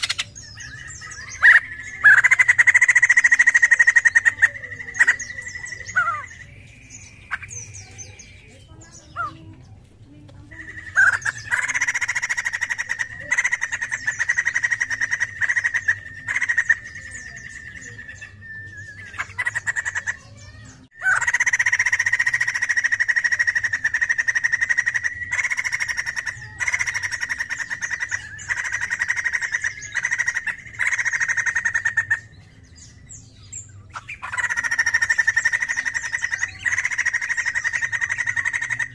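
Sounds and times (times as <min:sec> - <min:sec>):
bird singing chattering runs: 0:00.0 - 0:38.9.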